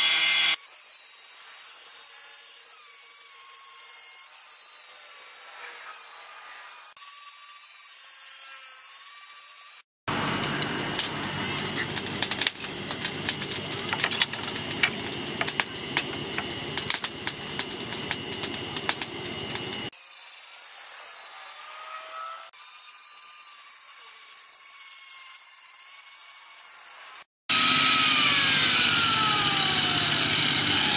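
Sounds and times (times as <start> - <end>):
angle grinder grinding steel: 0.0 - 30.9.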